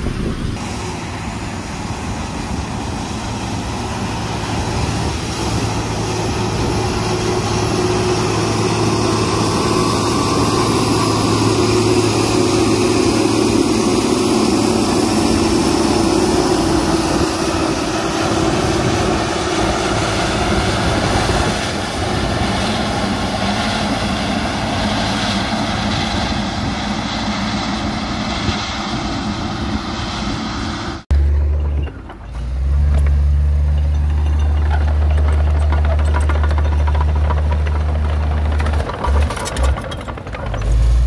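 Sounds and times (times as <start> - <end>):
deep engine drone: 0.0 - 41.0
diesel machinery engine running: 0.0 - 41.0.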